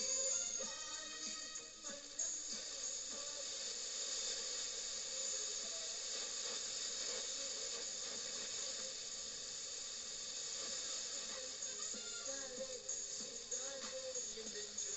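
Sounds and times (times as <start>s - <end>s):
faint music: 0.0s - 14.9s
radio static hiss: 0.0s - 14.9s.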